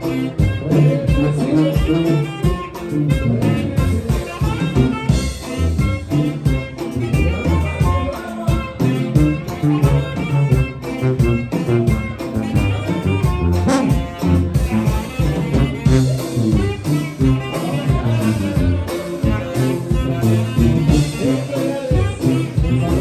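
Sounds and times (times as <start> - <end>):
bajo sexto: 0.0 - 23.0
drums dance beat: 0.0 - 23.0
saxophones playing melody: 0.0 - 23.0
tuba: 0.0 - 23.0.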